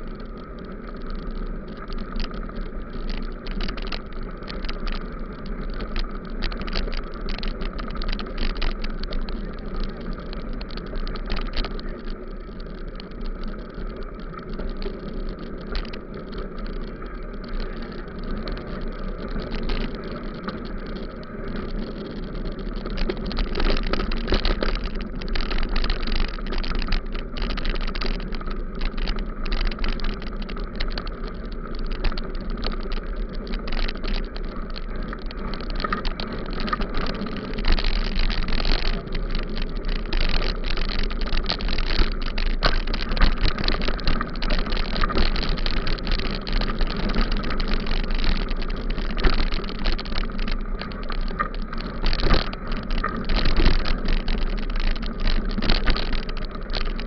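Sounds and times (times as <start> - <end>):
bicycle rattling jolts: 0.0 - 57.0
bicycle tyres crackling on grit: 0.0 - 57.0
wind rumble on microphone: 0.0 - 57.0.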